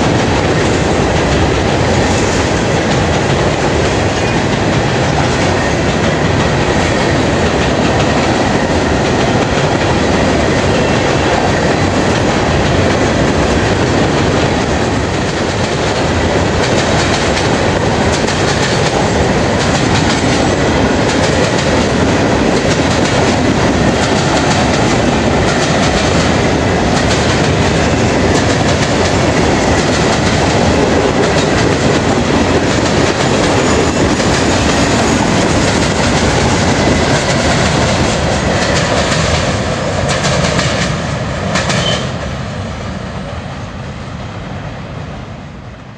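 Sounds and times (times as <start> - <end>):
wheels clacking over rail joints: 0.0 - 42.1
freight train rolling rumble: 0.0 - 45.9.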